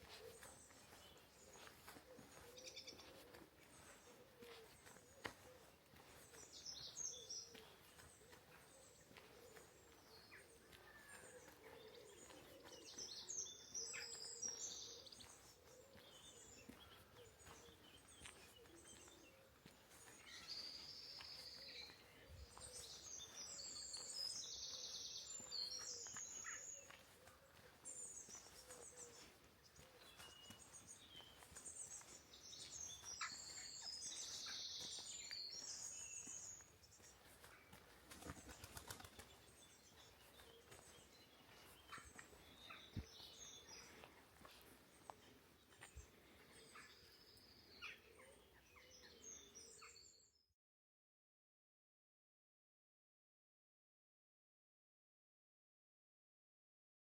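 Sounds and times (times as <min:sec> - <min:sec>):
small songbirds twittering: 0:00.0 - 0:50.4.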